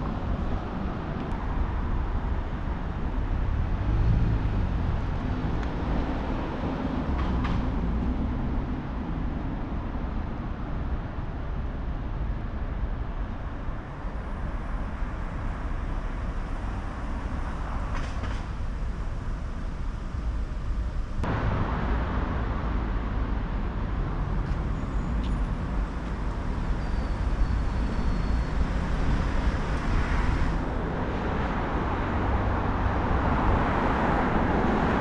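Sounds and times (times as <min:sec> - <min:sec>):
low rumble of traffic: 0:00.0 - 0:35.0.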